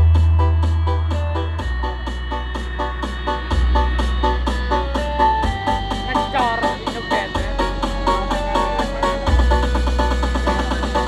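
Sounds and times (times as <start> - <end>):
heavy deep bass: 0.0 - 11.0.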